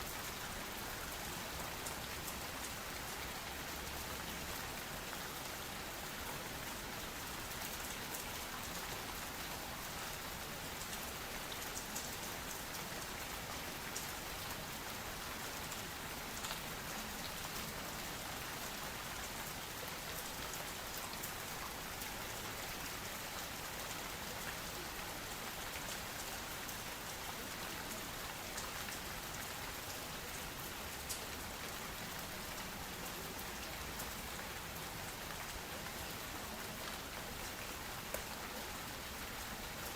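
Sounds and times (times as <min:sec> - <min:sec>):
rain drops ticking: 0:00.0 - 0:39.9
steady rain: 0:00.0 - 0:39.9.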